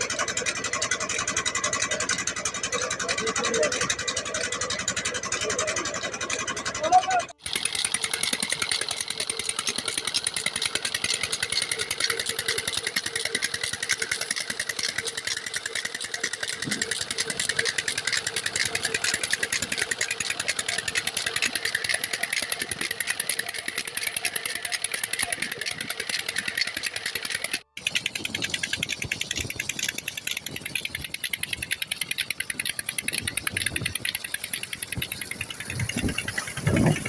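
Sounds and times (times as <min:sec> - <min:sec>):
diesel engine exhaust beats: 0:00.0 - 0:37.0.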